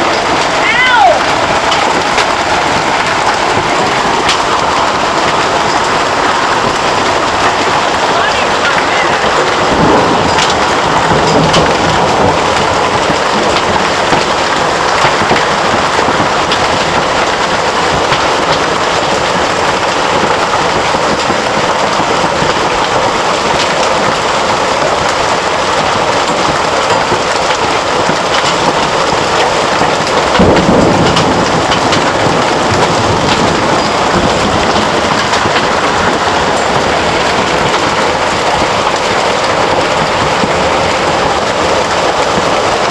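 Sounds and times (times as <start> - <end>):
deep thunder rumble: 0.0 - 42.9
hailstones cracking on hard surfaces: 0.0 - 42.9
heavy rain downpour: 0.0 - 42.9.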